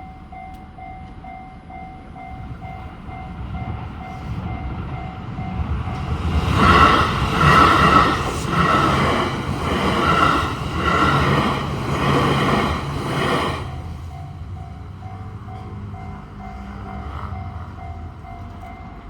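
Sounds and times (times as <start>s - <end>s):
train wheels clattering: 2.2s - 19.0s.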